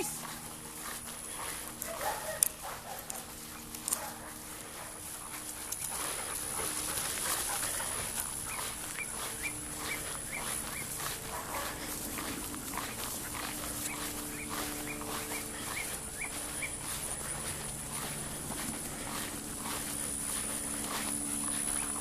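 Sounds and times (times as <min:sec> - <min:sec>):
dogs moving about: 0:00.0 - 0:22.0.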